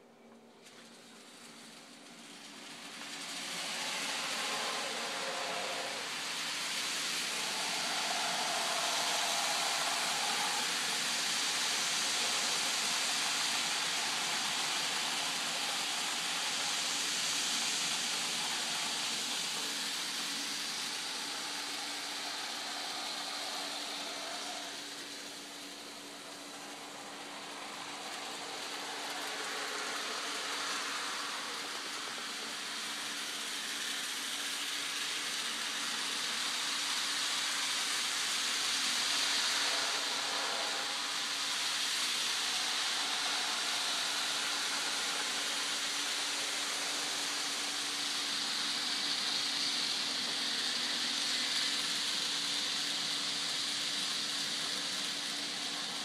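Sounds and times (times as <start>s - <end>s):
model train motors whirring: 0.6s - 56.0s.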